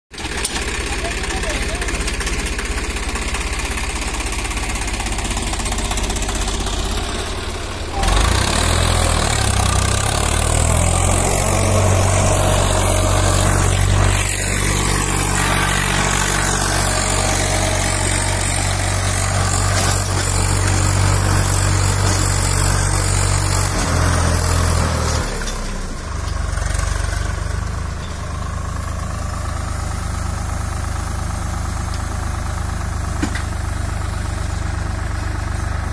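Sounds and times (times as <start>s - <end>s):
diesel tractor engine running: 0.1s - 35.9s.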